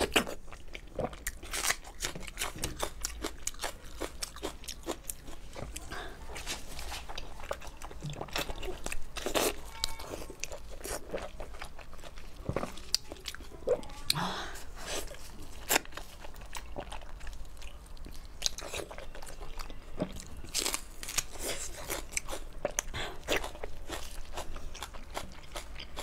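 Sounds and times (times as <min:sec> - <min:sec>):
person chewing wet smacks: 0:00.0 - 0:06.4, 0:07.0 - 0:14.2, 0:14.8 - 0:26.0.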